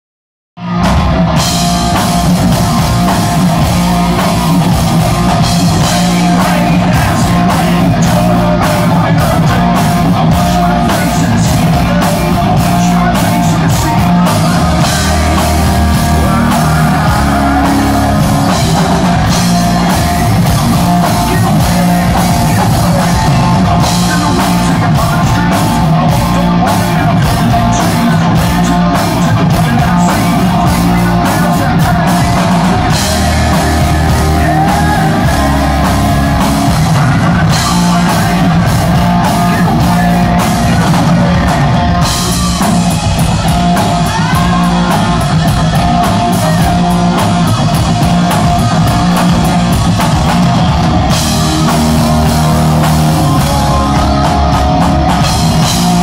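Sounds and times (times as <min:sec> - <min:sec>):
bass guitar: 0:00.6 - 0:56.0
drum kit with cymbal hits: 0:00.6 - 0:56.0
electric guitars: 0:00.6 - 0:56.0
singer singing: 0:00.6 - 0:56.0.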